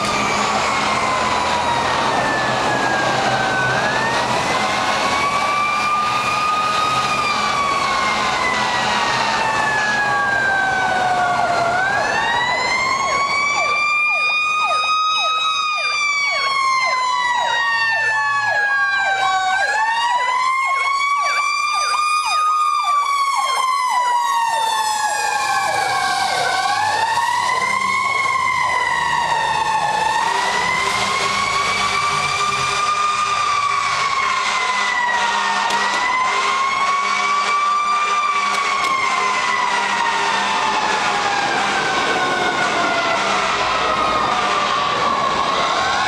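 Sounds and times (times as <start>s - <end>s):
fire engine siren wailing: 0.0s - 46.0s.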